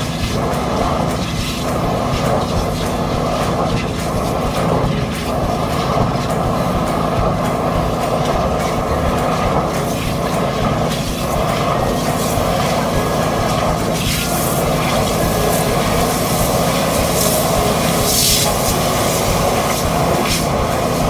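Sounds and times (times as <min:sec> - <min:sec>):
high-pressure drain jetter running: 0:00.0 - 0:21.0
wastewater gushing and splashing: 0:00.0 - 0:21.0.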